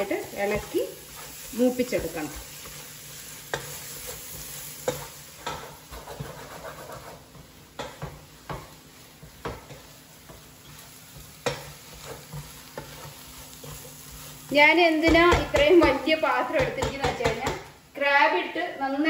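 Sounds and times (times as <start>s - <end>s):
spatula scraping a pan: 0.0s - 17.0s
spices sizzling in a pan: 0.0s - 19.0s.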